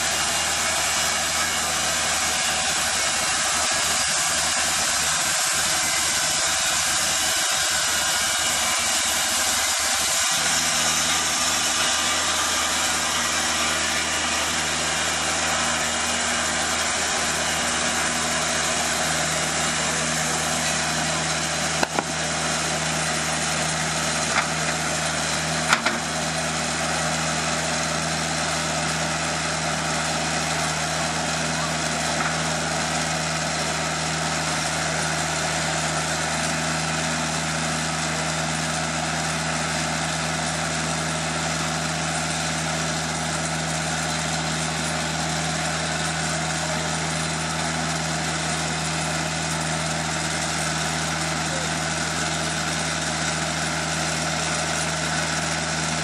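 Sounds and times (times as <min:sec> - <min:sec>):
bandsaw blade sawing wood: 0:00.0 - 0:56.0
engine humming: 0:10.4 - 0:56.0.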